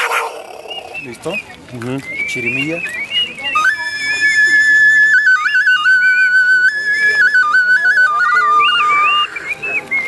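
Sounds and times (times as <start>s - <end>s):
clay flute whistling tone: 0.0s - 10.0s.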